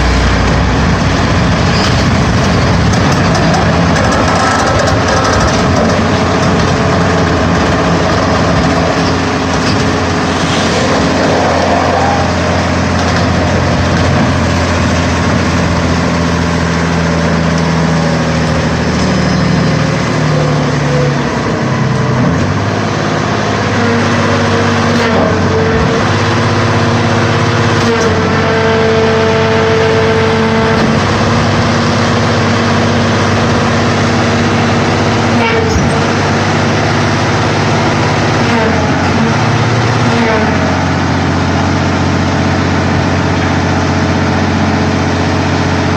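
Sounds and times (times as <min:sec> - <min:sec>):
hydraulic power unit droning: 0:00.0 - 0:45.9.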